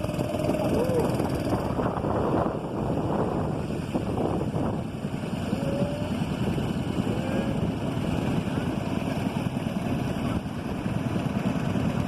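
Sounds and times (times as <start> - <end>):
motorboat engine running: 0.0 - 12.0
wind buffeting microphone: 0.0 - 12.0.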